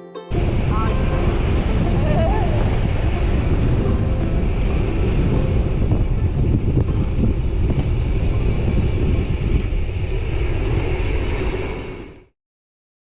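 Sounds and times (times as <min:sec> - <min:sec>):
wind buffeting microphone: 0:00.3 - 0:12.3.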